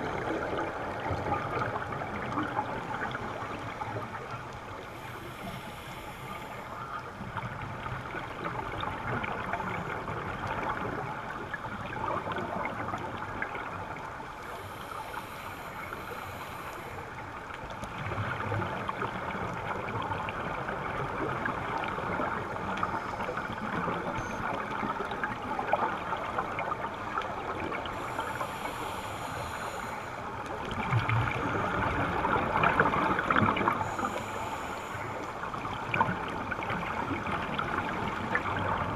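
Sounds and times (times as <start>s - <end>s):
underwater bubbling hiss: 0.0s - 38.9s.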